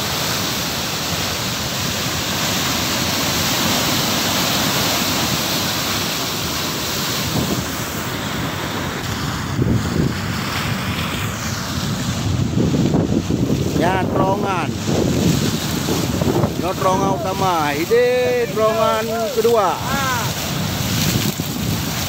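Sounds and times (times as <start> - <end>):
floodwater rushing down a channel: 0.0 - 22.0
wind gusts on microphone: 0.0 - 22.0.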